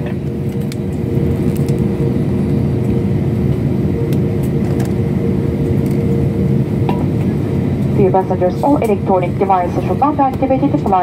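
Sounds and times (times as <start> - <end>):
airliner cabin engine rumble: 0.0 - 11.0
steady cabin hum: 0.0 - 11.0.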